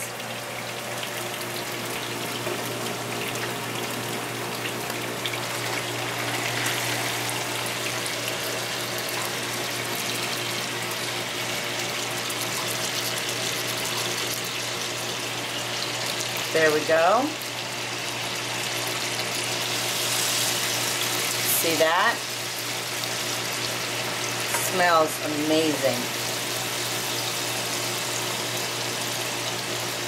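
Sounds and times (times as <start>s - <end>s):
pot of water boiling: 0.0s - 30.0s
tomatoes sizzling in oil: 0.0s - 30.0s.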